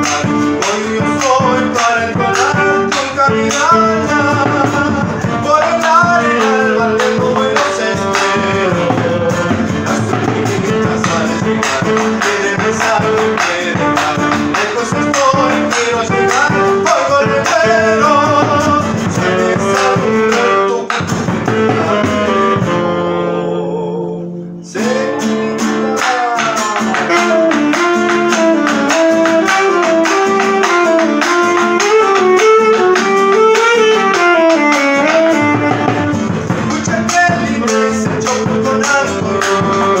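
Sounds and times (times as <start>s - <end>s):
acoustic guitar: 0.0s - 40.0s
tenor saxophone: 0.0s - 40.0s.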